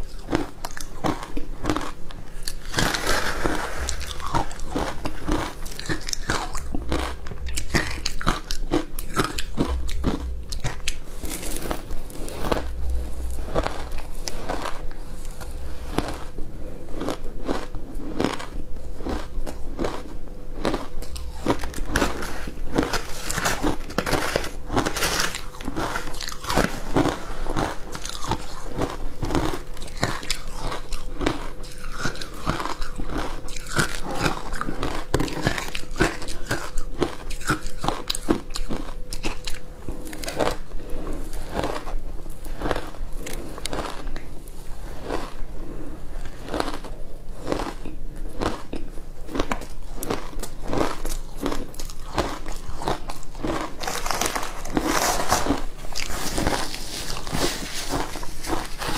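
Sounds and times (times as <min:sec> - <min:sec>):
ice being crunched by chewing: 0:00.0 - 0:16.2, 0:17.0 - 0:40.6, 0:46.2 - 0:58.9.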